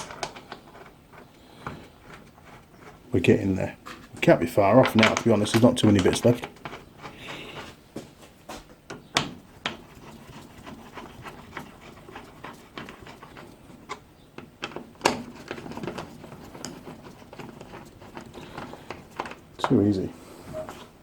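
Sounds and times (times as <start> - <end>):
metal parts clicking and knocking: 0.0 - 3.0, 3.9 - 7.7, 8.9 - 19.9
faint rustling: 0.0 - 8.8, 9.5 - 21.0.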